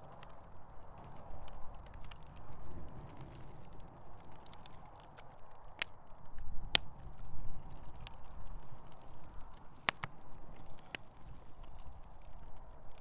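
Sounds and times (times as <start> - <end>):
sharp pops from fire: 0.0 - 13.0
wood fire crackling: 0.0 - 13.0.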